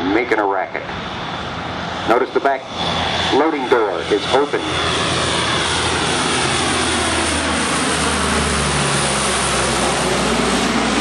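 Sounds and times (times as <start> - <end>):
turboprop aircraft flying overhead: 0.0 - 11.0.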